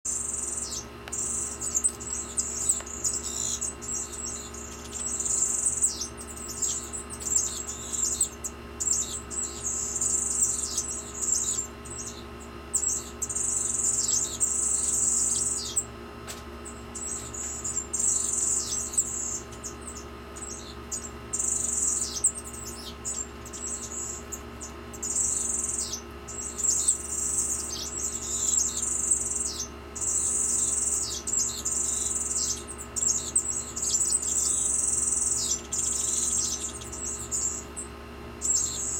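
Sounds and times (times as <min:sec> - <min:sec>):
finches trilling: 0:00.1 - 0:15.9, 0:16.6 - 0:38.9
steady low hum: 0:00.1 - 0:38.9.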